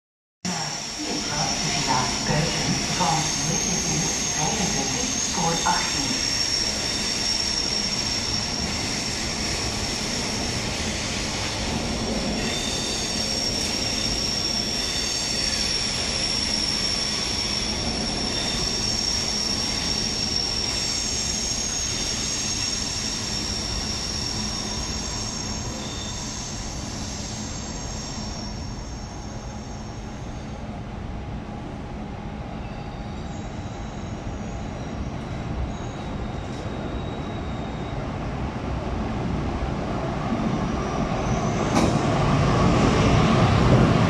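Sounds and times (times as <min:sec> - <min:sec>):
train wheels squealing on rails: 0:00.5 - 0:30.9, 0:32.3 - 0:44.0.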